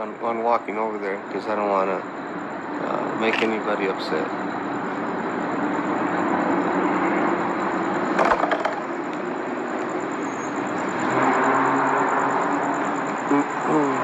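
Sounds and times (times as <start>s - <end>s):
engine noise: 0.0s - 14.0s.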